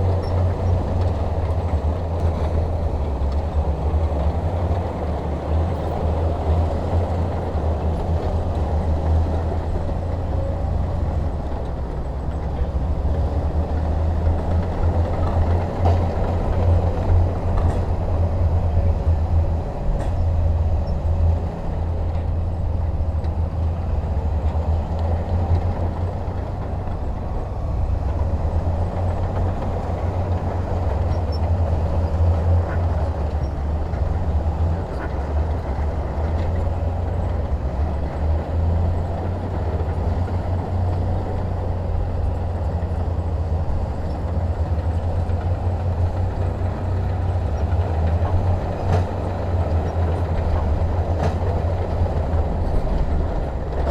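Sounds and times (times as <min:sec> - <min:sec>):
diesel engine rumbling: 0:00.0 - 0:53.9.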